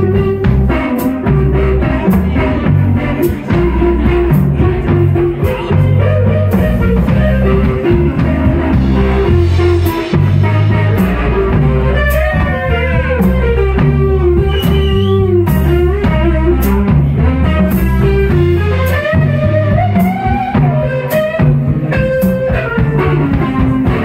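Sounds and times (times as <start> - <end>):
bass guitar: 0.0 - 24.0
drum kit with cymbals: 0.0 - 24.0
electric guitar lead: 0.0 - 24.0.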